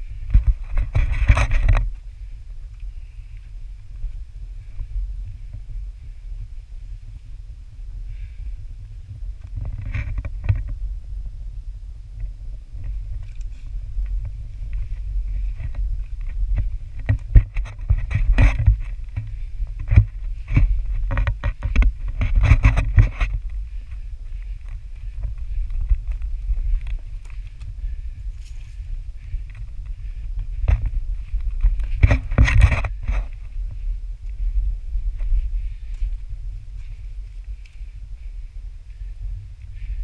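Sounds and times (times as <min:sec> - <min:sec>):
footsteps and hands on rock: 0:00.0 - 0:06.7, 0:12.2 - 0:40.0
wind rumble on microphone: 0:00.0 - 0:40.0.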